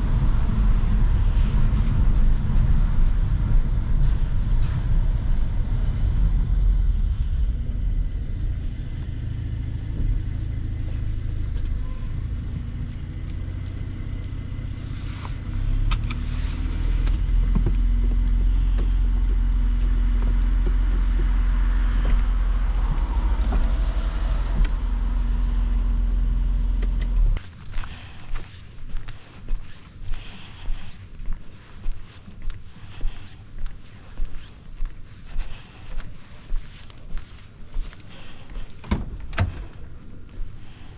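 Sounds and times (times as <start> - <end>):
car engine low drone: 0.0 - 40.9.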